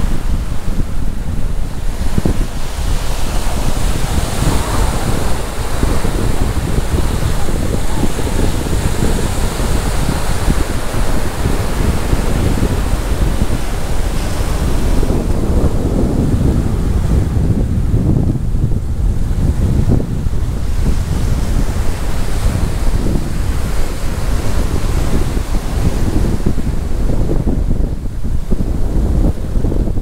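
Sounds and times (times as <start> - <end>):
surf on a beach: 0.0 - 30.0
wind buffeting microphone: 0.0 - 30.0.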